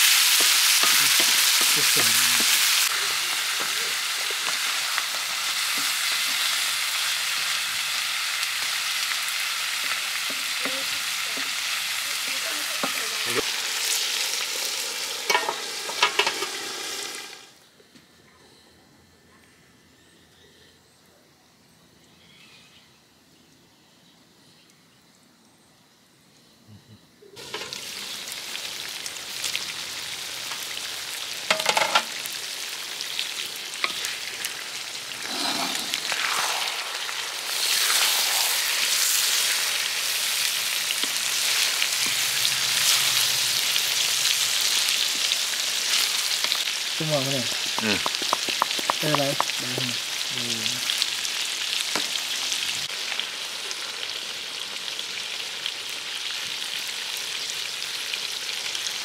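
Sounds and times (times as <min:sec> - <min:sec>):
food sizzling in a pan: 0:00.0 - 0:17.6, 0:27.4 - 0:59.0.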